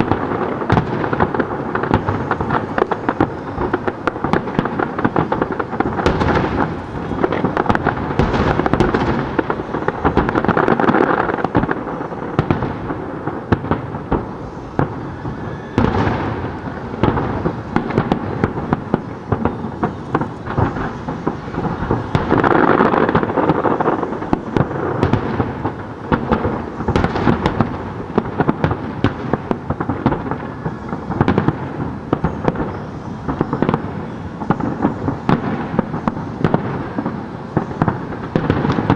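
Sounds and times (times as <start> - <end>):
firework booms and crackles: 0.0 - 38.9.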